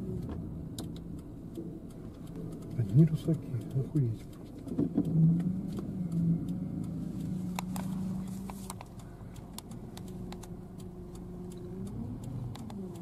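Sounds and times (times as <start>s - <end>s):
car cabin hum: 0.0s - 13.0s
light ticks: 0.0s - 13.0s.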